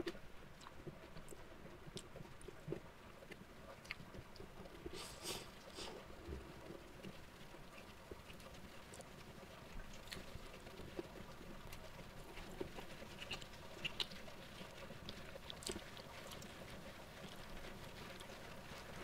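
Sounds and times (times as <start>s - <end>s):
man chewing food: 0.0s - 19.0s.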